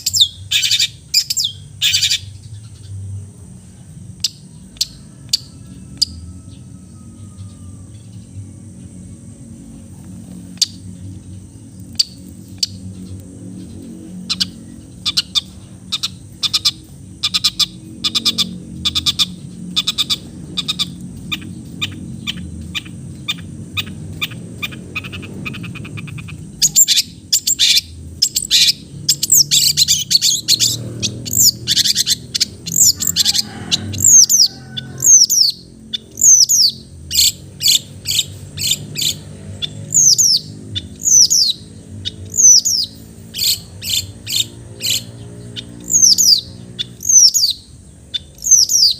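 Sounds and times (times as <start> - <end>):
shrike singing: 0.0 - 48.9.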